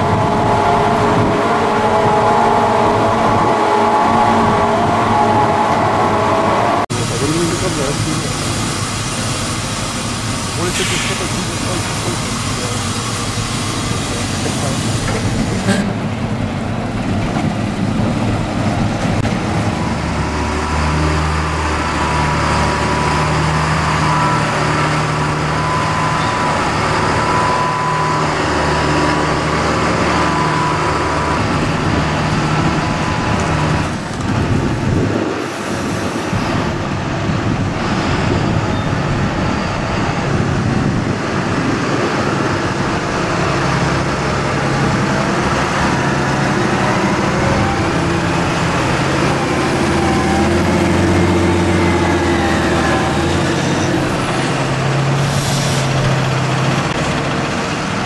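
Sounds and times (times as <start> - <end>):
tractor diesel engines running: 6.8 - 58.0.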